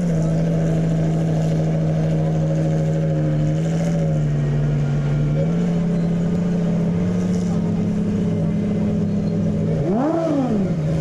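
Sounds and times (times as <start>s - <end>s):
car engines idling: 0.0s - 11.0s.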